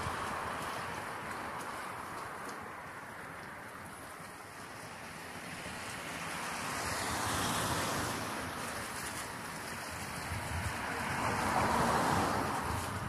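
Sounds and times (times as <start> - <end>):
cars passing on road: 0.0 - 13.0
steady outdoor hiss: 0.0 - 13.0.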